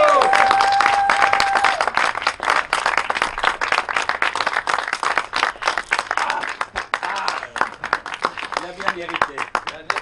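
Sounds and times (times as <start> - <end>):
people applauding: 0.0 - 10.0.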